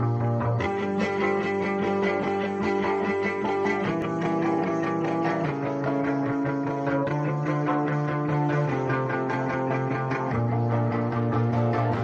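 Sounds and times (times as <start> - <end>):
guitar music: 0.0 - 12.0.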